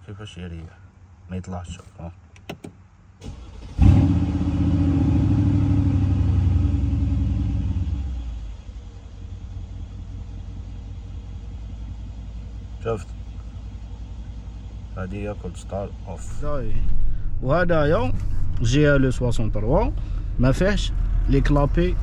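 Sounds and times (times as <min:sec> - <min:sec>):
car engine starting and idling: 0:01.8 - 0:22.0.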